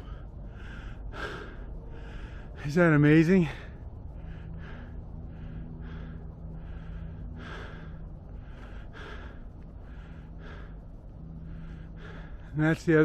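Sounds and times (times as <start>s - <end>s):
man breathing hard: 0.0s - 12.7s
low hum: 0.0s - 13.0s.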